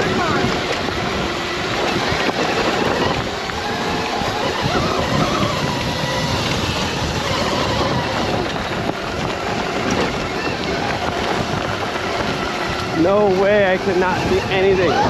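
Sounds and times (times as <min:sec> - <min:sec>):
faint electric motor whine: 0:00.0 - 0:15.0
wind rush on microphone: 0:00.0 - 0:15.0.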